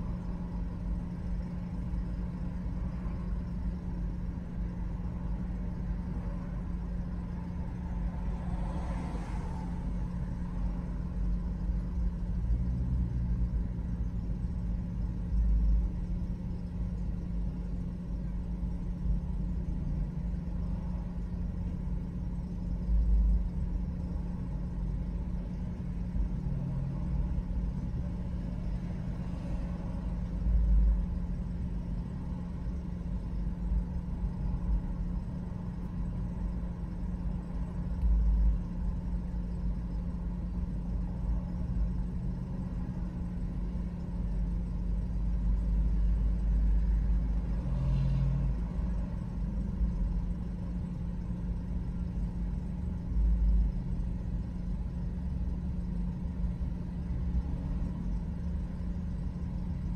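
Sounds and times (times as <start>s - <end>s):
car idling hum: 0.0s - 59.9s.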